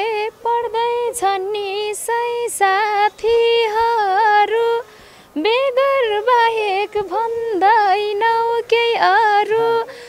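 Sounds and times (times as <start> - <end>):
woman singing folk song: 0.0 - 10.0.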